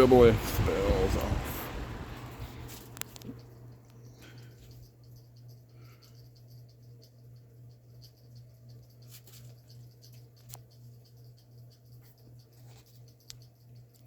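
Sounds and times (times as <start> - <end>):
fan coasting with pulsing hum: 0.0 - 14.0
light ticking from fan: 0.0 - 14.0.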